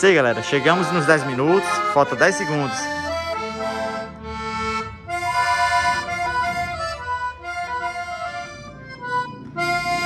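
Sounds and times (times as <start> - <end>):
solo accordion: 0.0 - 10.0.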